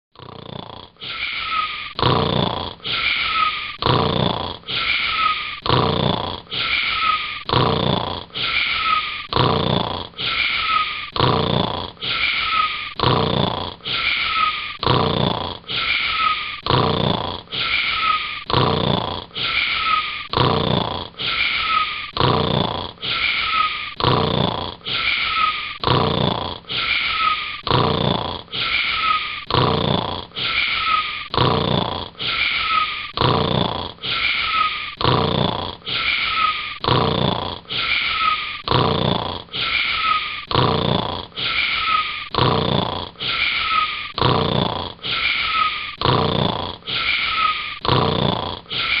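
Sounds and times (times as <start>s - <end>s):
cartoon snoring with whistle: 0.2s - 49.0s.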